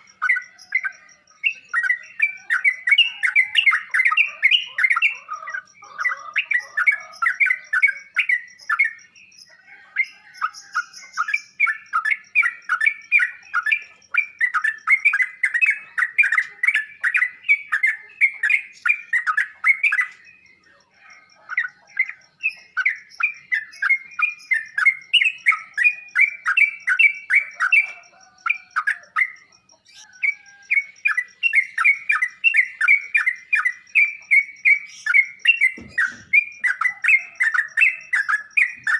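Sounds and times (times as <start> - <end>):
bird chattering chirps: 0.0 - 38.9.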